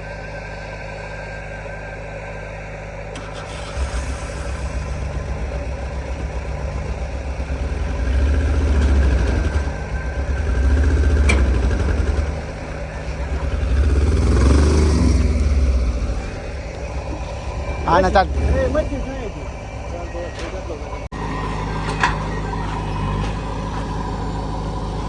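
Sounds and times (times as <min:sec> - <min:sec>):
diesel engine revving under load: 0:00.0 - 0:25.0.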